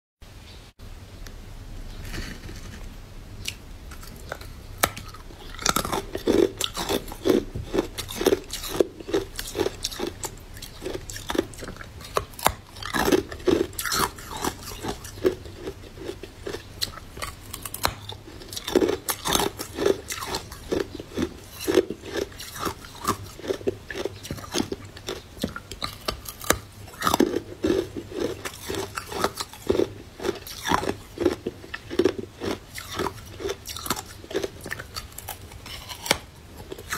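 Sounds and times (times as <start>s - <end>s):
person crunching ice: 3.9s - 25.2s, 25.8s - 36.9s.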